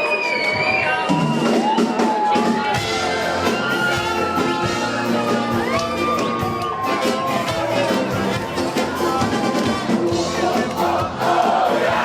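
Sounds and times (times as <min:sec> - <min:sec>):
ska band playing live: 0:00.1 - 0:12.0.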